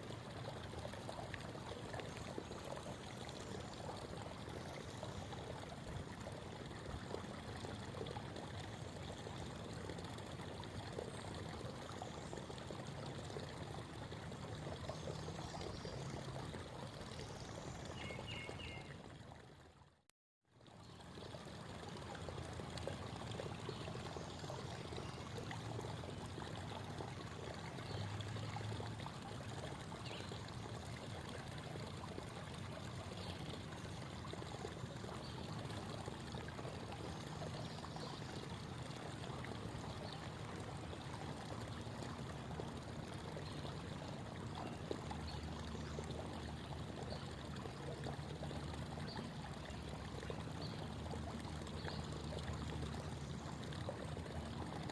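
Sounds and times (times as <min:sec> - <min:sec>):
creek water babbling: 0:00.0 - 0:54.9.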